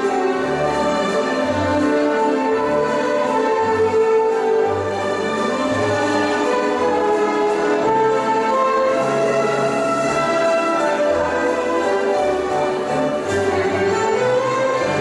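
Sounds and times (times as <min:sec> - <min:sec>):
instrumental waltz music: 0:00.0 - 0:15.0.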